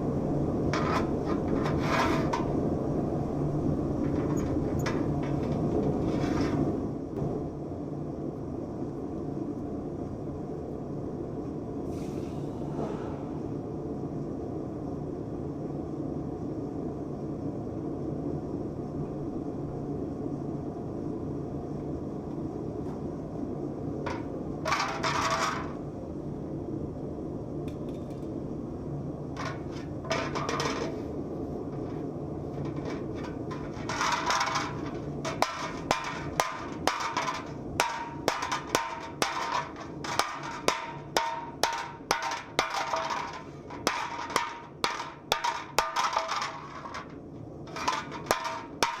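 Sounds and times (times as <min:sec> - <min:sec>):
steady low rumble: 0:00.0 - 0:49.0.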